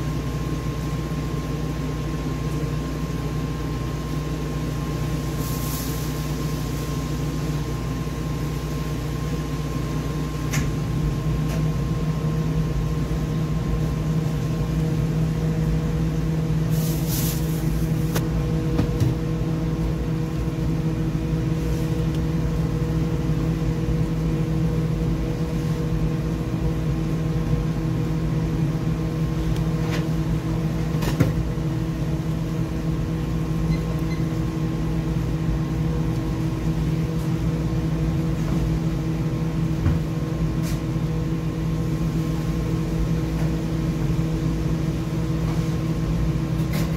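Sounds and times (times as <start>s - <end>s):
machine hum: 0.0s - 46.9s.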